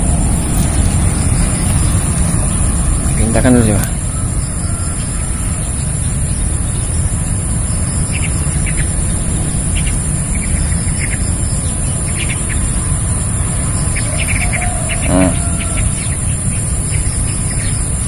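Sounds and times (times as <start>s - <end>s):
low rumble: 0.0s - 17.8s
bird chirping: 0.0s - 18.0s.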